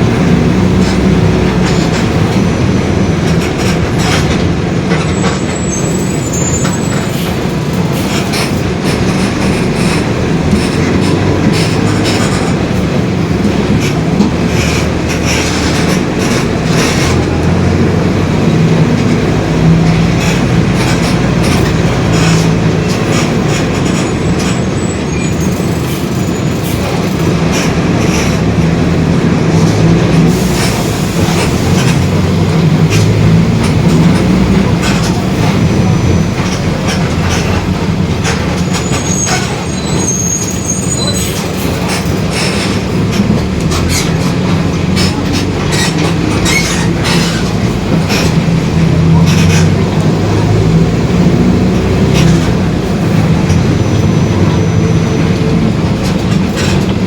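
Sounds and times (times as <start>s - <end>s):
diesel bus engine drone: 0.0s - 57.0s.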